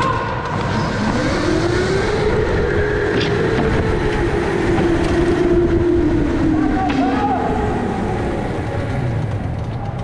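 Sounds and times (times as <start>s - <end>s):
electric go-kart motor whining: 0.3s - 10.0s.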